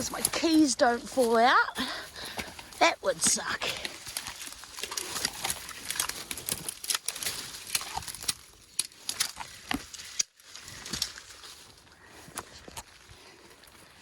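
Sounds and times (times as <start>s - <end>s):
twigs crackling and snapping: 0.0s - 14.0s.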